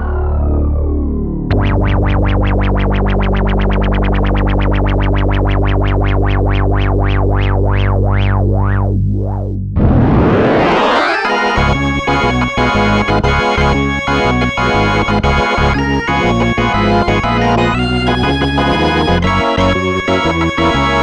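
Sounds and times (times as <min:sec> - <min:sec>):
synthesizer bass with wobbling filter: 0:00.0 - 0:21.0.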